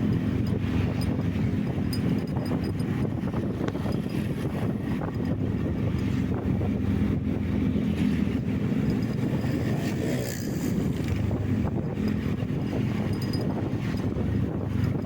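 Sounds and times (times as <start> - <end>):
vehicle engine and road rumble: 0.0 - 15.0
wind buffeting microphone: 0.0 - 15.0.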